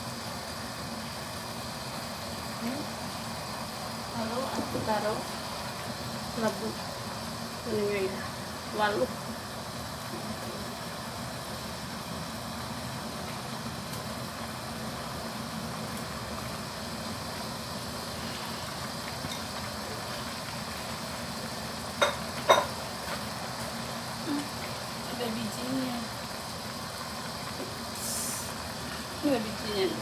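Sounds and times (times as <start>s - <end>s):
curry simmering with steady hiss: 0.0s - 30.0s.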